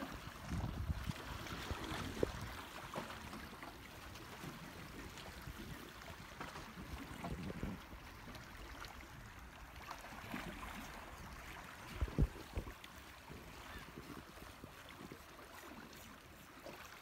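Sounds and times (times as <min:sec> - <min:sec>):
water lapping among rocks: 0:00.0 - 0:17.0.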